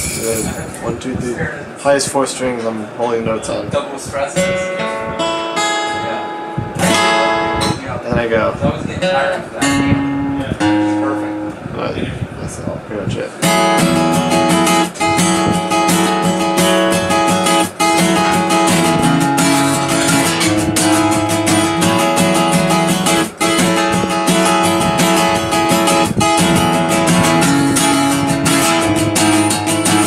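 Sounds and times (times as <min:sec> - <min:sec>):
acoustic guitar strumming: 0:00.0 - 0:01.0, 0:03.0 - 0:11.8, 0:13.3 - 0:30.0.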